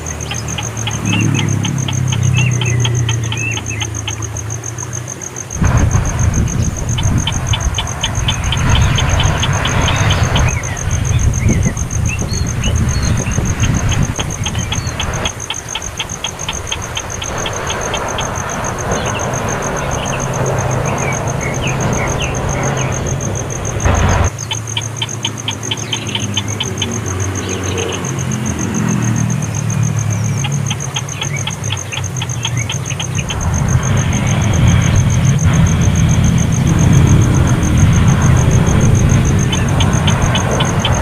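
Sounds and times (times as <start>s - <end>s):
engine running: 0.0s - 4.6s, 5.5s - 24.3s, 25.2s - 41.0s
rapid high chirps: 0.0s - 4.6s, 5.5s - 41.0s.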